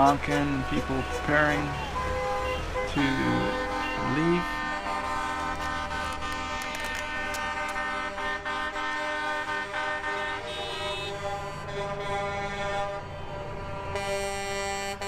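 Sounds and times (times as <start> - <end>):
idling engines rumble: 0.0 - 15.0
vehicle horns honking: 0.0 - 15.0.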